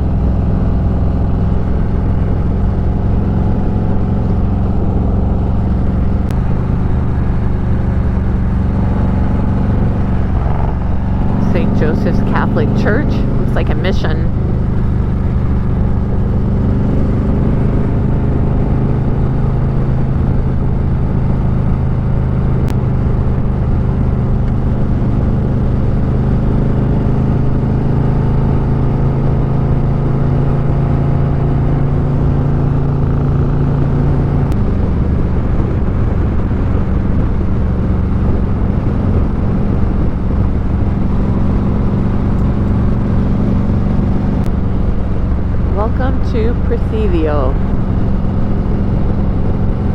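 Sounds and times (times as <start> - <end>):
motorcycle engine cruising: 0.0 - 46.2.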